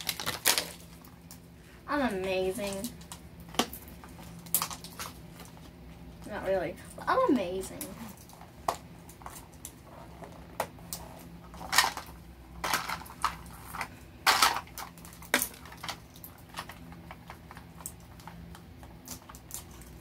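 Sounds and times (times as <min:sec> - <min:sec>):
foil wrappers crinkling: 0:00.0 - 0:05.8, 0:07.1 - 0:20.0.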